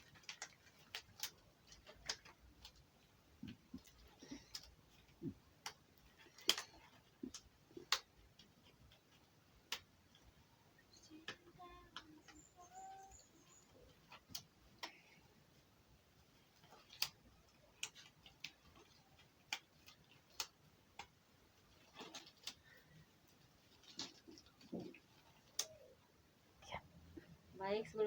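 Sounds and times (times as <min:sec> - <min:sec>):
small items clicking and tapping: 0:00.0 - 0:26.0.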